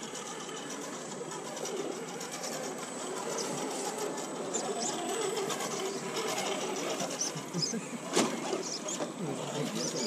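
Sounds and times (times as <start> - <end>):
small electric motor whirring: 0.0 - 10.0.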